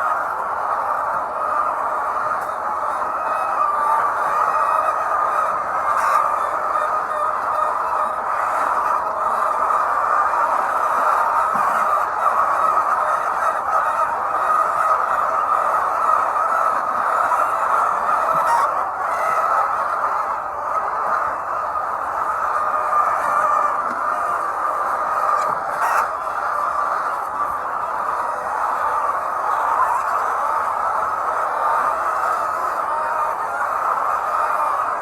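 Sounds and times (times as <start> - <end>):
hens clucking and cackling: 0.0 - 35.0.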